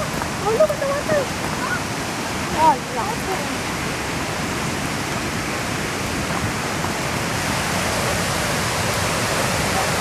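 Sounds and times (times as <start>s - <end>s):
waterfall rushing and splashing: 0.0s - 10.0s.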